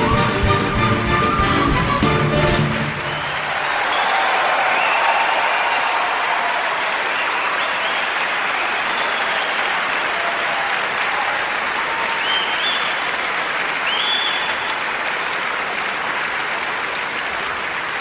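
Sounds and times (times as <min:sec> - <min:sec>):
crowd whistles: 0:00.0 - 0:14.9
audience applauding: 0:00.0 - 0:18.0.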